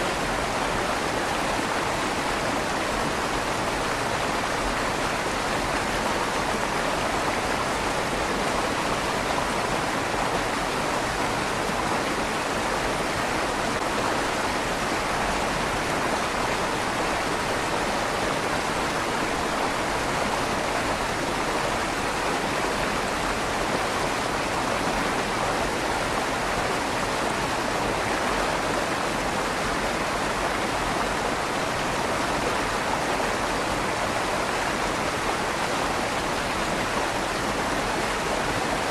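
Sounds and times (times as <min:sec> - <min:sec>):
river water rushing in stone tunnel: 0:00.0 - 0:38.9.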